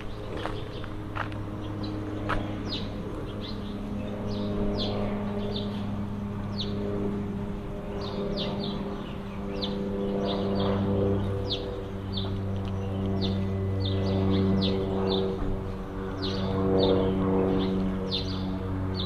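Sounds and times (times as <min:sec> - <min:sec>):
low engine-like hum: 0:00.0 - 0:19.0
small birds chirping: 0:00.0 - 0:19.0.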